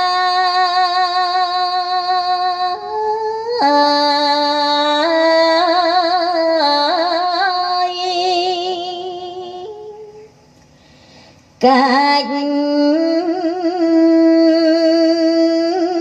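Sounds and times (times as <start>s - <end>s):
woman singing with vibrato: 0.0s - 10.3s, 11.6s - 16.0s.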